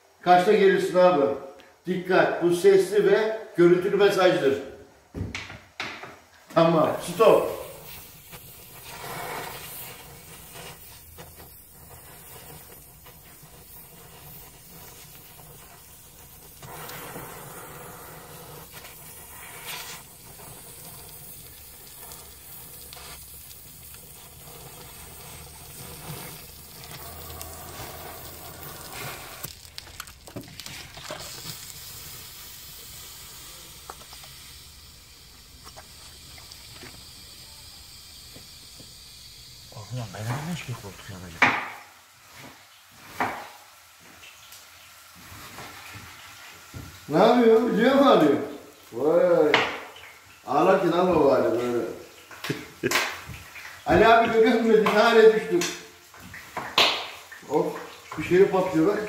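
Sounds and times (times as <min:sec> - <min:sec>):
welding arc hissing and crackling: 0:05.4 - 0:59.0.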